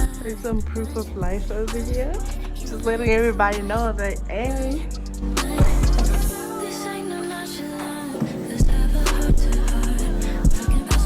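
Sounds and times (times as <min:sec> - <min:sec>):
pop music with sung vocals: 0:00.0 - 0:11.0.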